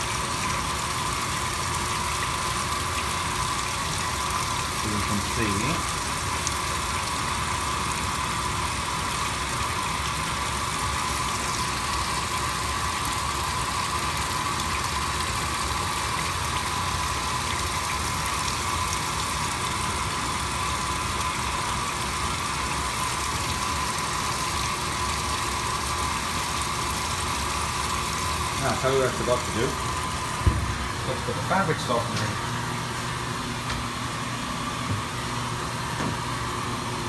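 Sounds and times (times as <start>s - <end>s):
water pouring into washing machine: 0.0s - 37.0s.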